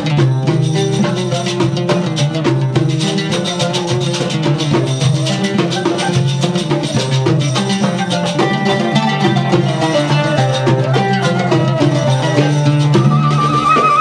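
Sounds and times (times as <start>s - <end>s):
instrumental music with busy percussion: 0.0s - 14.0s.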